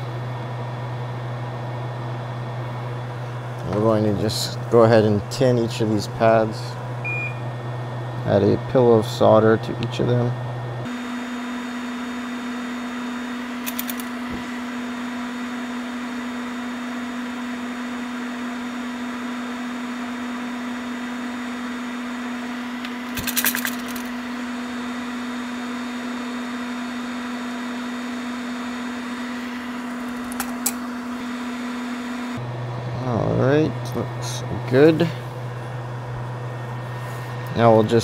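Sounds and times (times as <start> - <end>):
electric fan motor humming: 0.0 - 38.0.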